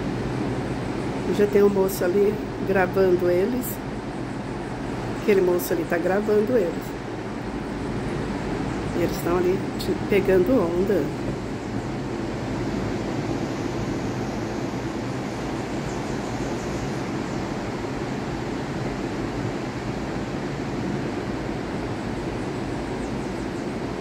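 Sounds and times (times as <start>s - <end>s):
surf roaring: 0.0s - 24.0s
wind: 0.0s - 24.0s.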